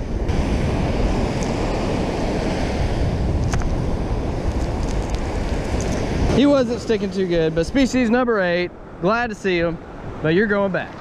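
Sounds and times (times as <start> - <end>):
breaking surf: 0.0 - 11.0
wind rumbling on microphone: 0.0 - 11.0.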